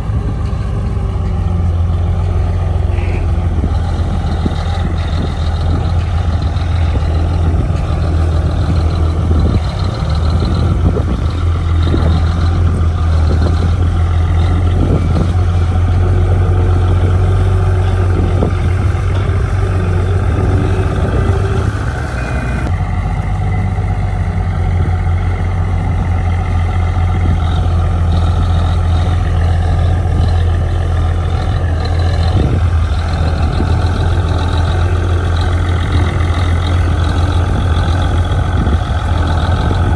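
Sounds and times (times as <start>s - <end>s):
diesel engine droning: 0.0s - 39.9s
machinery knocks and clanks: 0.0s - 39.9s.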